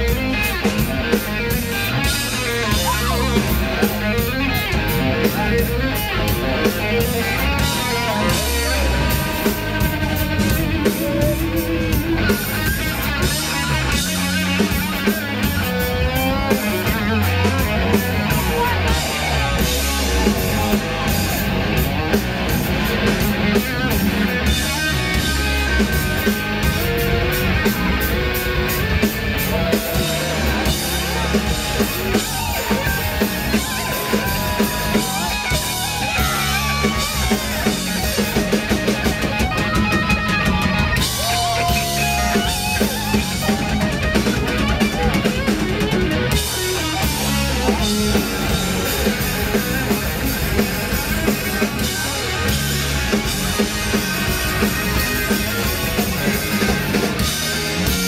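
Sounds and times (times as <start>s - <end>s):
live hard rock band: 0.0s - 58.0s.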